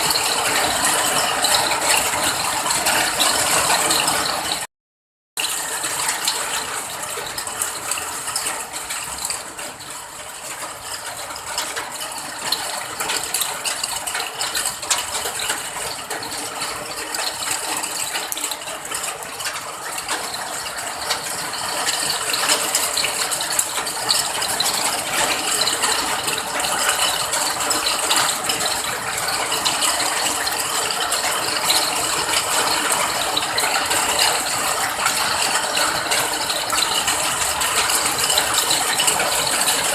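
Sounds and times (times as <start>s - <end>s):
steady rain: 0.0s - 4.7s, 5.4s - 39.9s.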